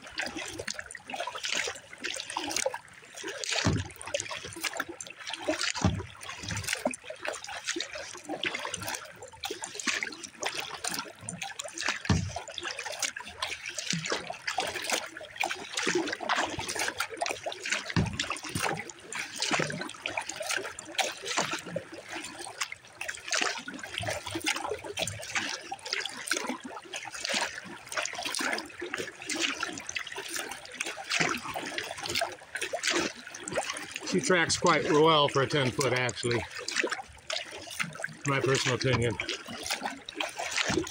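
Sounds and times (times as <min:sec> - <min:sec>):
kayak paddle splashing: 0:00.0 - 0:40.9
water running along hull: 0:00.0 - 0:40.9.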